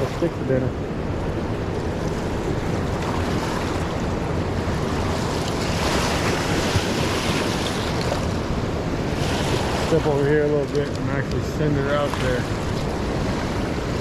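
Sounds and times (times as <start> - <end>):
river in flood rushing: 0.0 - 14.0.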